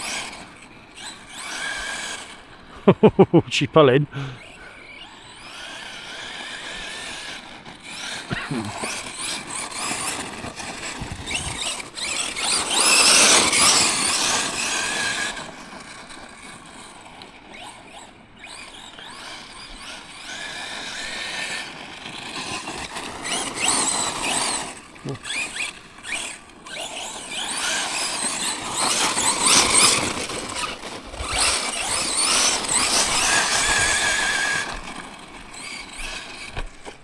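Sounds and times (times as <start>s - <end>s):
electric motor whining: 0.0s - 37.0s
tyres crunching on rough ground: 6.2s - 37.0s.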